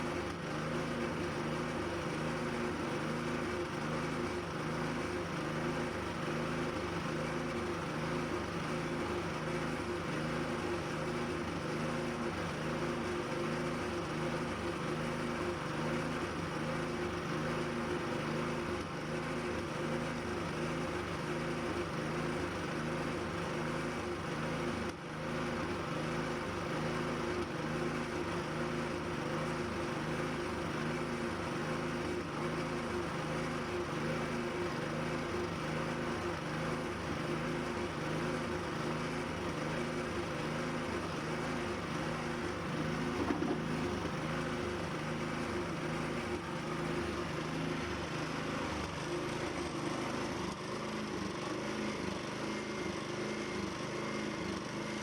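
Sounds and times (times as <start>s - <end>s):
motor running with hum: 0.0s - 55.0s.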